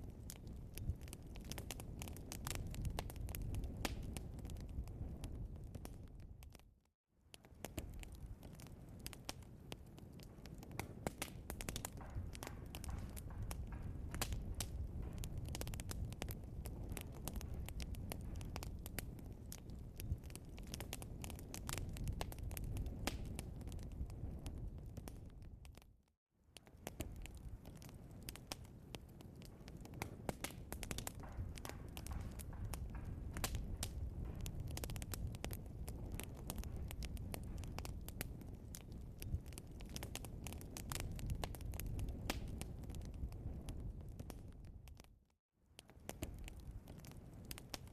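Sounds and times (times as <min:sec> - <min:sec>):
burning wood crackling and popping: 0:00.0 - 0:47.9
low rumble of flames: 0:00.0 - 0:47.9.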